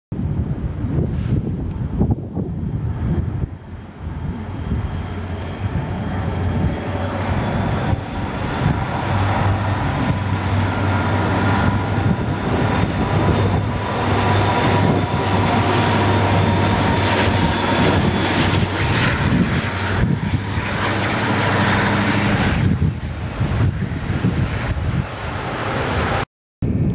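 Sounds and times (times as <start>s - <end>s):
diesel locomotive engines droning: 0.2s - 26.9s
train rumble: 0.2s - 26.9s.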